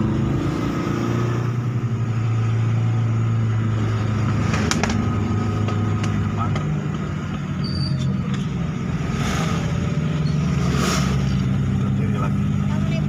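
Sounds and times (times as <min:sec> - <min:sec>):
car engine running: 0:00.0 - 0:13.0
road noise: 0:00.0 - 0:13.0.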